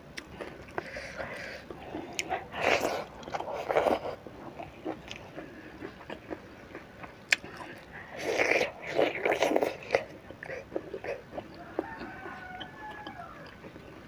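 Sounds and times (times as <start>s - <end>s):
chewing: 0.2s - 14.0s.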